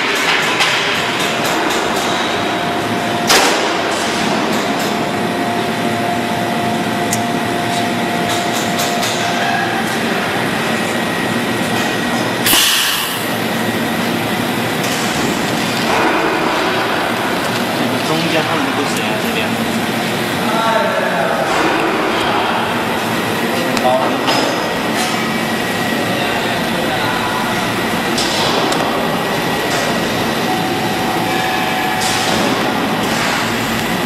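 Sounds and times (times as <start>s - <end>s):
welding machine running: 0.0s - 34.0s.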